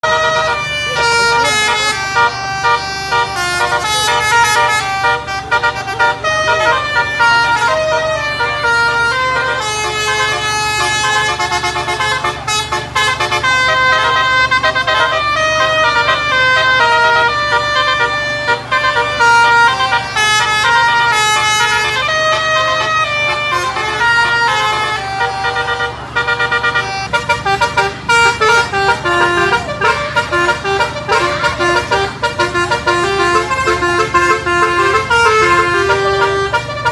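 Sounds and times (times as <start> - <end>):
low engine hum: 0.0 - 36.9
musical air horn playing tune: 0.0 - 36.9.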